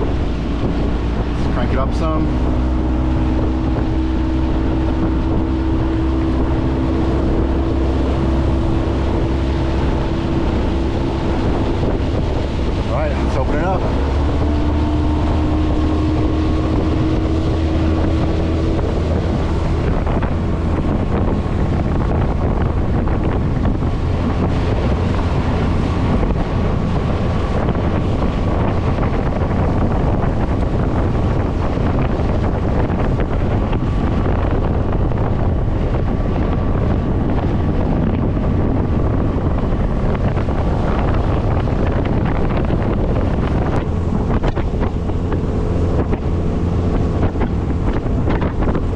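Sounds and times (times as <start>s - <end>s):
outboard motor at high throttle: 0.0s - 48.9s
water rushing past hull: 0.0s - 48.9s
wind buffeting microphone: 0.0s - 48.9s.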